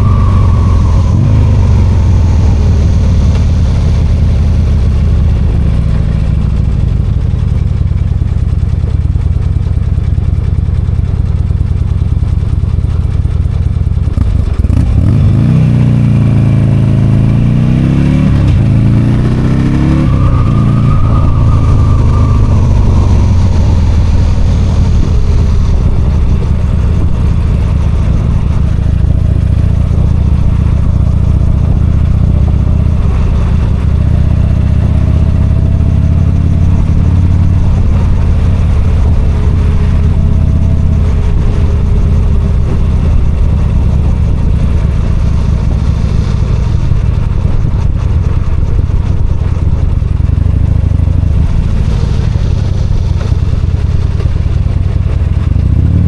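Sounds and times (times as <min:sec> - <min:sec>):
motorcycle engine running: 0:00.0 - 0:56.0
wind and tyre hiss: 0:00.0 - 0:56.0.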